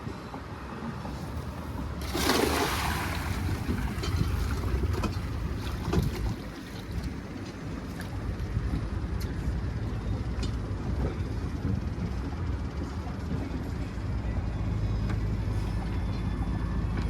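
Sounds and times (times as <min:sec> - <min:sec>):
water noise: 0:00.0 - 0:14.1
boat motor running: 0:00.0 - 0:17.0
wind: 0:00.0 - 0:17.0.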